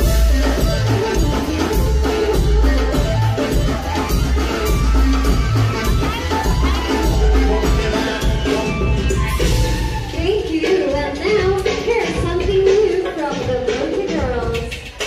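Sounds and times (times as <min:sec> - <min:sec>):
live band playing dance music: 0:00.0 - 0:15.0.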